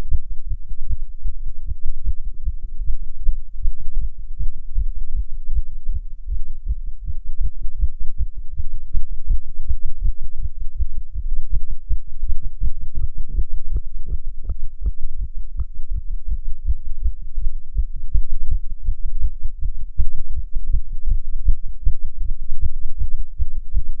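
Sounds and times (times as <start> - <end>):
fast heartbeat thumps: 0.2 - 24.0.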